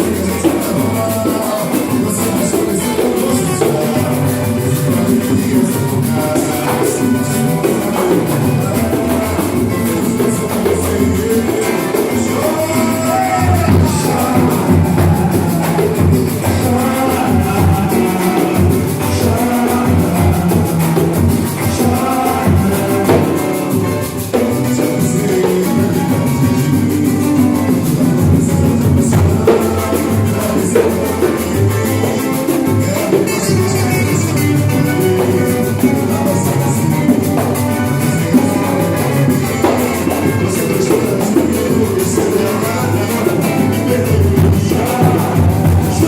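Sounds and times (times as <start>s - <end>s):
drums and percussion: 0.0s - 46.0s.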